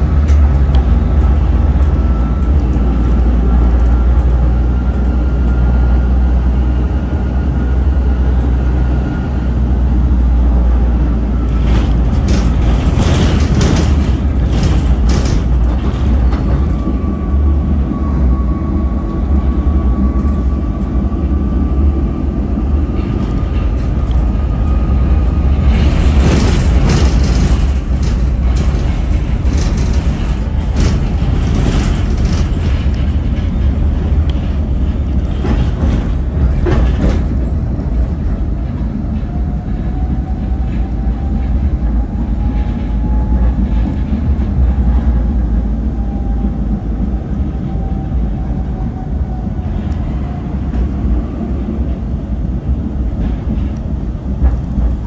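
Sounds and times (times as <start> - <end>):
tram clattering: 0.0 - 55.0
tram rumble: 0.0 - 55.0.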